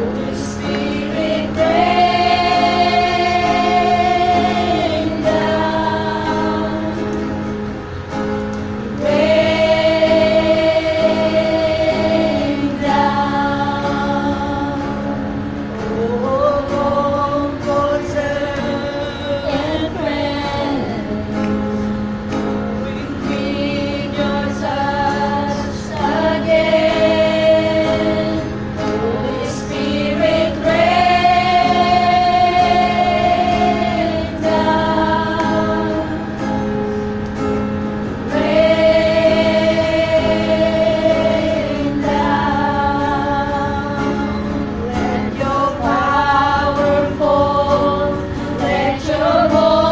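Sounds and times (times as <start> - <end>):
women singing a worship song: 0.0 - 7.6, 8.9 - 21.9, 22.8 - 36.9, 38.1 - 49.9.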